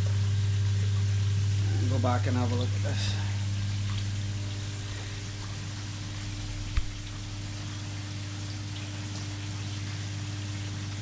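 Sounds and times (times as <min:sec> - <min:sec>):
steady low hum: 0:00.0 - 0:11.0
water splashing and bubbling: 0:00.0 - 0:11.0.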